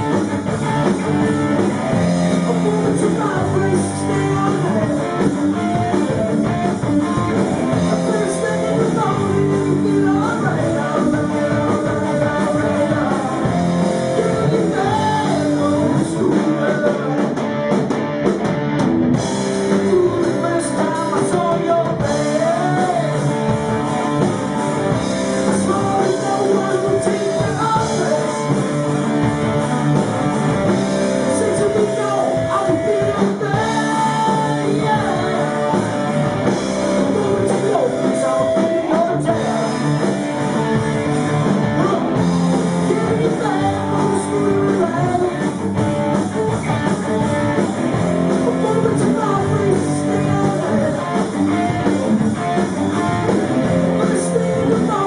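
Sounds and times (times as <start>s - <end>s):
drum kit: 0.0s - 55.0s
electric guitar: 0.0s - 55.0s
singer's voice: 1.1s - 17.7s, 19.6s - 29.0s, 30.6s - 55.0s.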